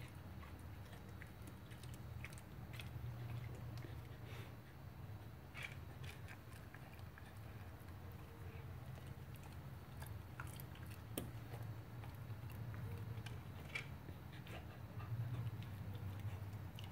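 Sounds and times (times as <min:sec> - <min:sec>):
dog crunching vegetables: 0:00.0 - 0:16.9
steady low hum: 0:00.0 - 0:16.9.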